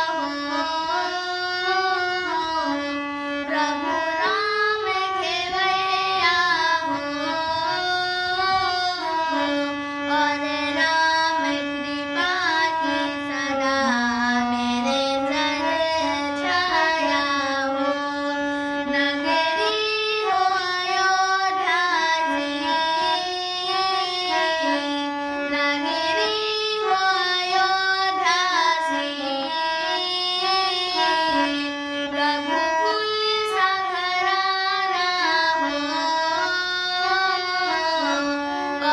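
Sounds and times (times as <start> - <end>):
high voice singing devotional song: 0.0 - 38.9.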